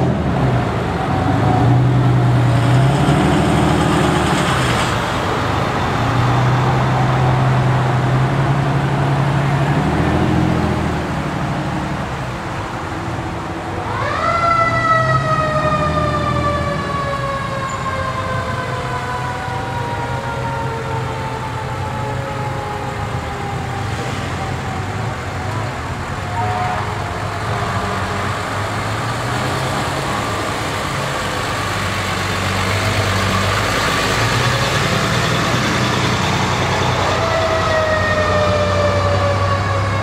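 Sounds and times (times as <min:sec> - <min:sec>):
truck and car engines running: 0:00.0 - 0:40.0.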